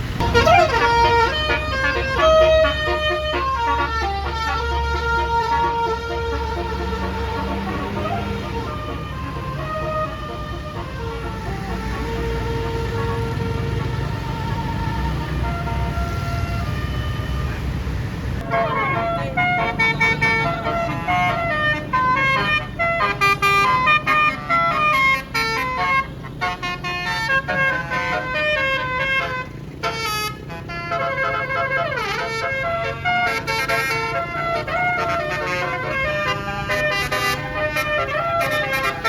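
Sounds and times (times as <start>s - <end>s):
low engine rumble: 0.0s - 39.0s
bus air horn tune: 0.2s - 17.6s, 18.4s - 39.0s.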